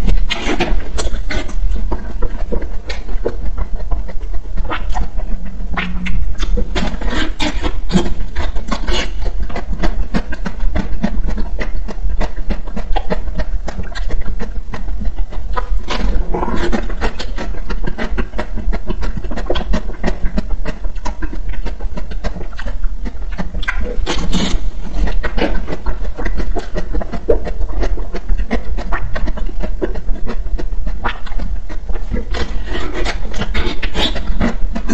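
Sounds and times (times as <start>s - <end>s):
biting and chewing ice cream bar: 0.0s - 34.9s.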